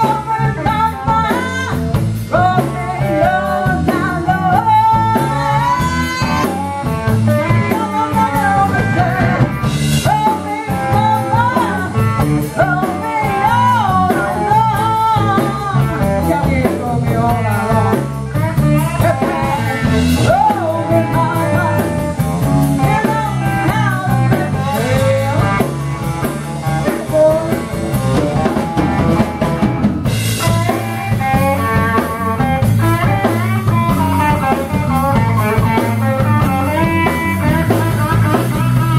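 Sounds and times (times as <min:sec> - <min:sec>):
woman singing: 0:00.0 - 0:29.2, 0:30.4 - 0:38.9
drums: 0:00.0 - 0:38.9
electric guitar: 0:00.0 - 0:38.9.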